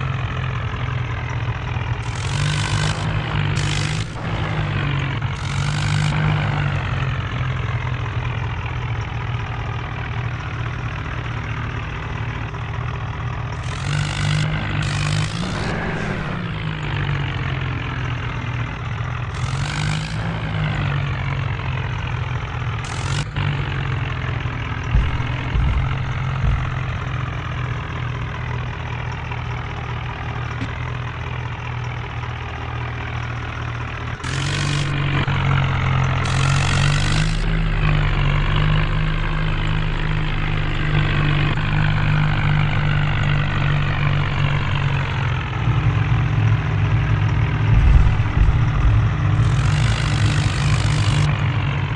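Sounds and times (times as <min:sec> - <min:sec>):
diesel tractor engine revving: 0:00.0 - 0:51.9.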